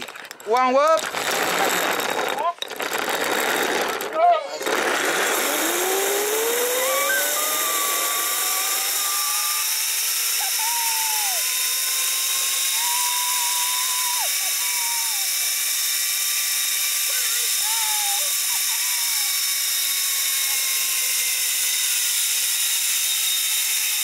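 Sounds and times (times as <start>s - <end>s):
pulleys whining on steel cable: 0.7s - 24.0s.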